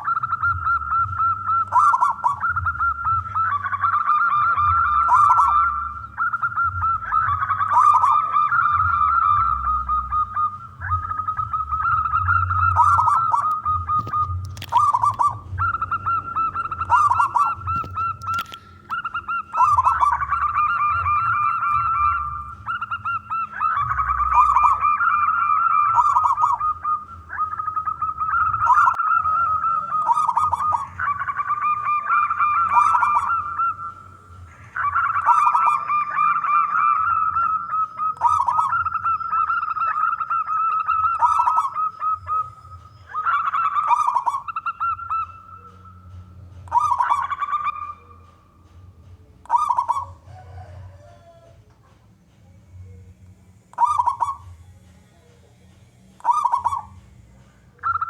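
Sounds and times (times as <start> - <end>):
dove cooing: 0.0 - 52.0, 52.7 - 58.0.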